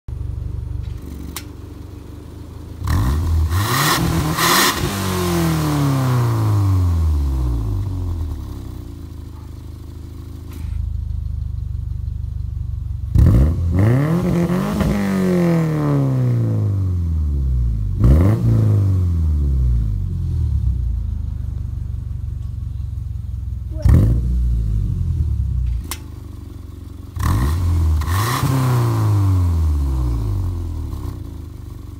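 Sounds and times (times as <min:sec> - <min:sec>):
car exhaust idling and revving: 0:00.1 - 0:31.9.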